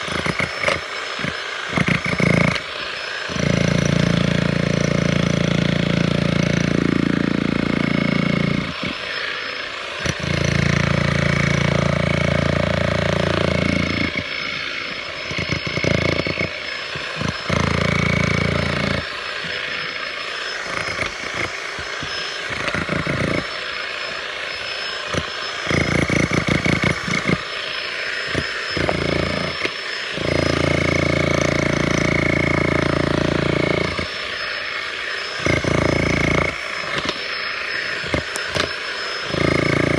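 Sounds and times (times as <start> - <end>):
demolition hammer chiselling concrete: 0.0 - 39.9.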